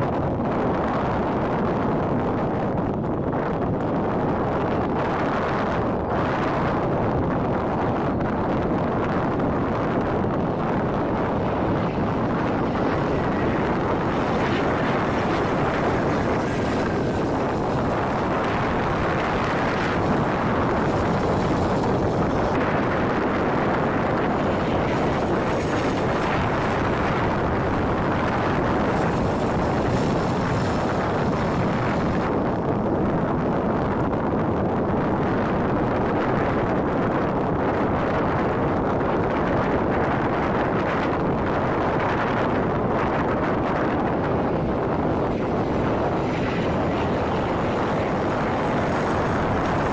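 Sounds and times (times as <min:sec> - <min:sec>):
jets taking off: 0:00.0 - 0:49.9
wind on microphone: 0:00.0 - 0:49.9.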